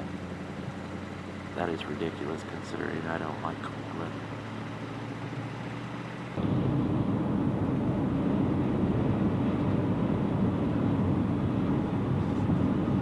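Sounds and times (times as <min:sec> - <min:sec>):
road and wind noise in car: 0:00.0 - 0:13.0.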